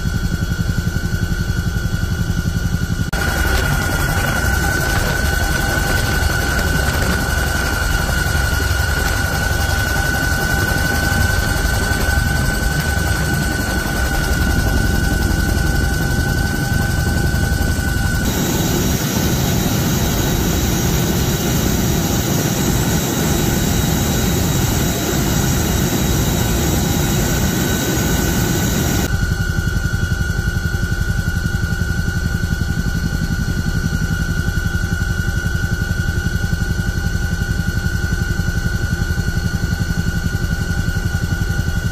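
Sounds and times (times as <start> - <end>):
helicopter rumble and whine: 0.0 - 41.9
helicopter turbines and rotors: 0.0 - 41.9.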